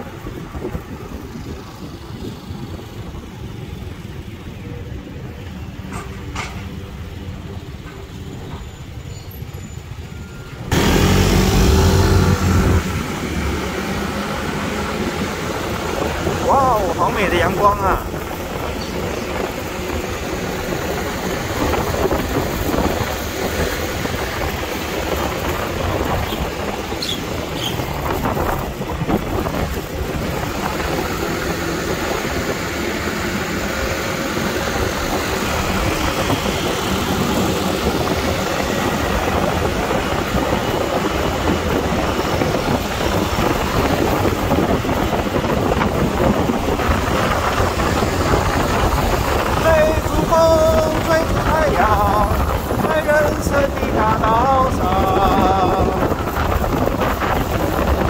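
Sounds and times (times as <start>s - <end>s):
city street traffic: 0.0s - 58.0s.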